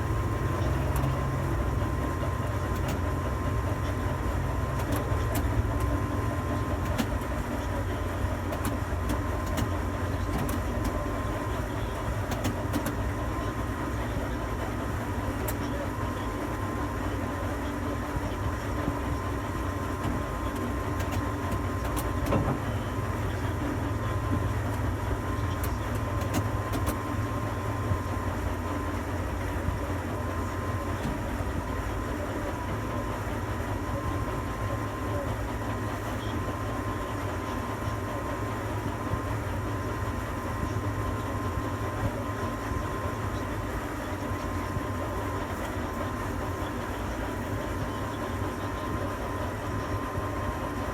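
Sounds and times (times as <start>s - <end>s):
low machine hum: 0.0s - 50.9s.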